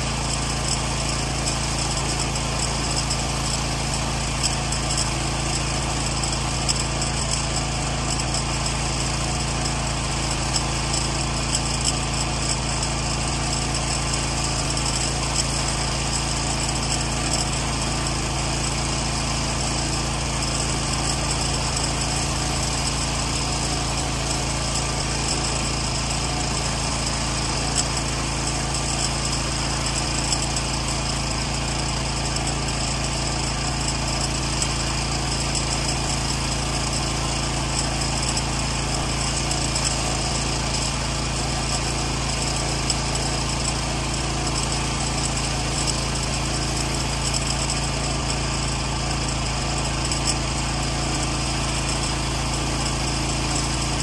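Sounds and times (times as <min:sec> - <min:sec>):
pressure washer running: 0:00.0 - 0:54.0
water jet spraying siding: 0:00.0 - 0:54.0.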